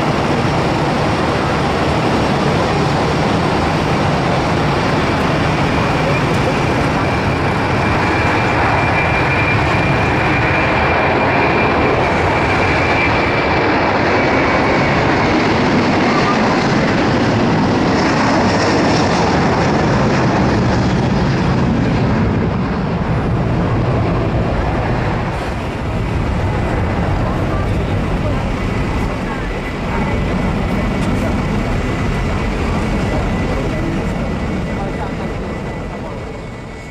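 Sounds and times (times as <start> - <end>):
jet engines rushing: 0.0 - 36.9.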